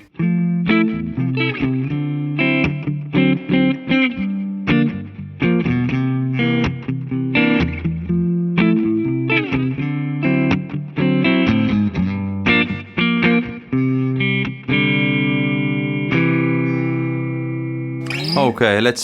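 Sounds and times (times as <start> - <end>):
electric guitar jazzy chords: 0.0 - 19.0.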